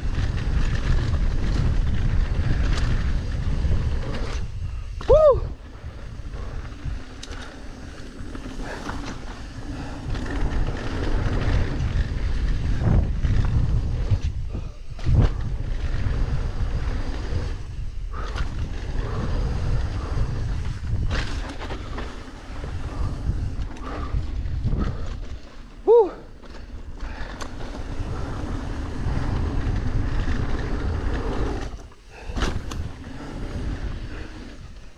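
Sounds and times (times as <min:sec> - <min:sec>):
bike thumping and rattling: 0:00.0 - 0:34.9
tyres rolling over loose dirt: 0:00.0 - 0:34.9
wind rumble on microphone: 0:00.0 - 0:34.9.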